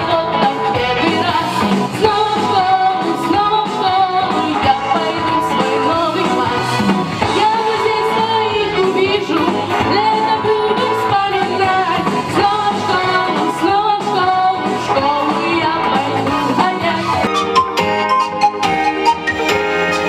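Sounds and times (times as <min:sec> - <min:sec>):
instrumental backing track: 0:00.0 - 0:20.0.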